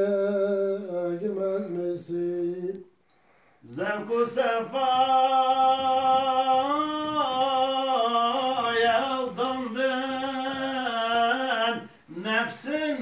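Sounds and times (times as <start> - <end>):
man singing unaccompanied: 0.0 - 2.9, 3.6 - 13.0.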